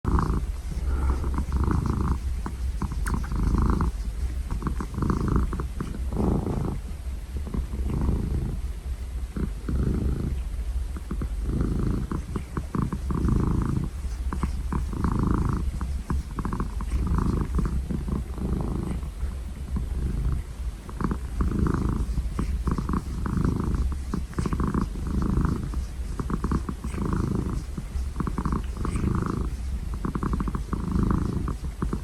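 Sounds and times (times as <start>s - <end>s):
cat purring: 0.0s - 32.0s.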